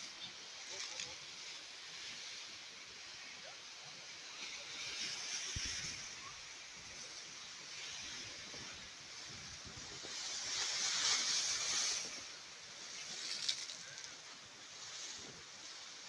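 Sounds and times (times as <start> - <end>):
sea wave washing in: 0.0 - 16.0
steady background hiss: 0.0 - 16.0.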